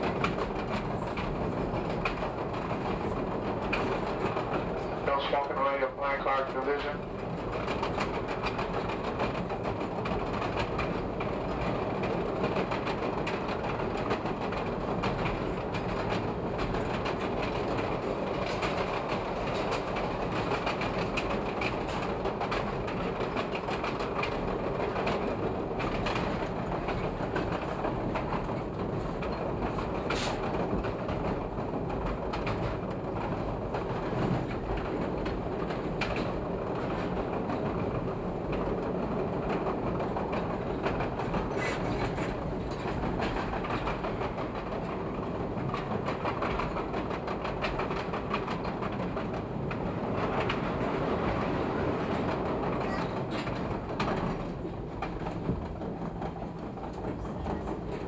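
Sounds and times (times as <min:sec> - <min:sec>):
elevated train rolling: 0:00.0 - 0:58.0
wheels clicking over rail joints: 0:06.8 - 0:58.0.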